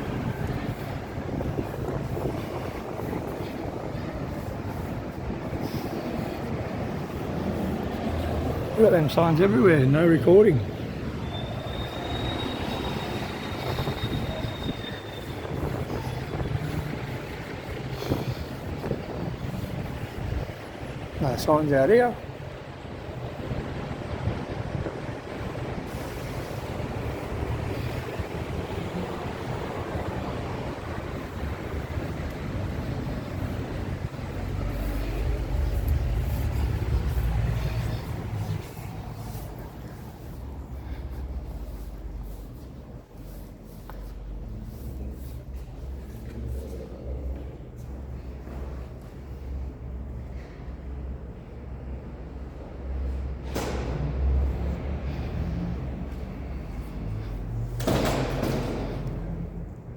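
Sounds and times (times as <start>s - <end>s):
low vehicle rumble: 0.0s - 21.2s, 22.2s - 59.9s.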